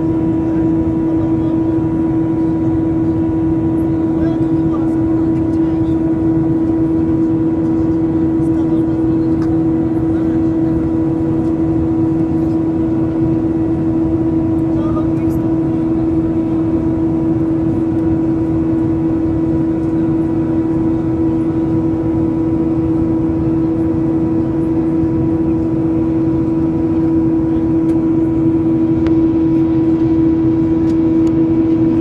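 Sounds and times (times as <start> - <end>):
engine and airflow rush: 0.0 - 32.0
strong steady hum: 0.0 - 32.0.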